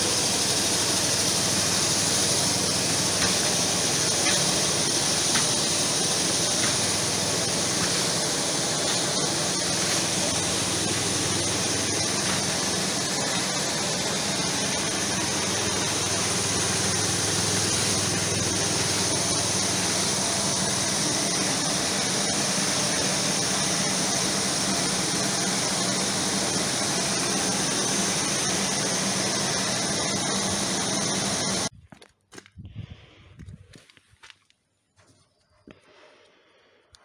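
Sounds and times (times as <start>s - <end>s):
auger motor humming: 0.0s - 31.7s
grain hissing: 0.0s - 31.7s.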